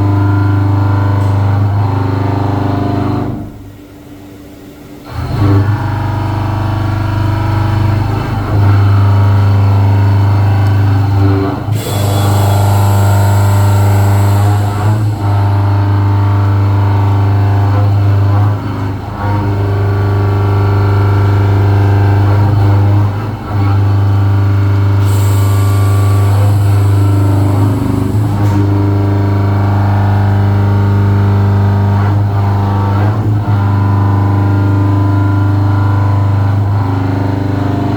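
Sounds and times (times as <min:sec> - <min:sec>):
cnc milling machine humming: 0:00.0 - 0:37.9.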